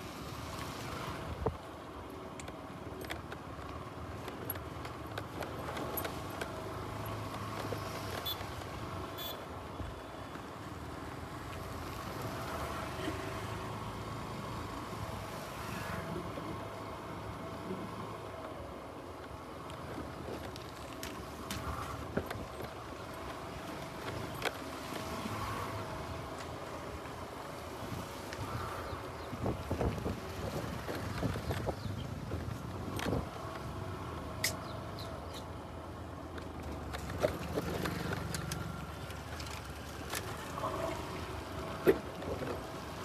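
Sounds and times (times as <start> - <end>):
road and wind noise: 0.0 - 43.0.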